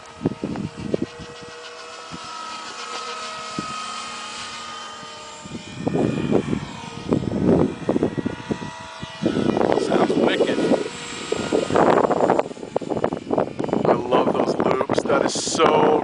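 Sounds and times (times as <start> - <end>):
model helicopter rotor whine: 0.0 - 16.0
wind buffeting microphone: 0.0 - 16.0.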